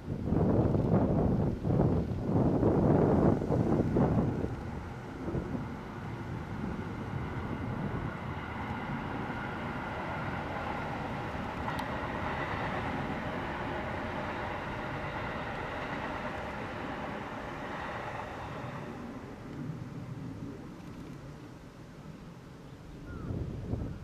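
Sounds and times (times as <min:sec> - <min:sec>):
distant traffic rumble: 0:00.0 - 0:24.0.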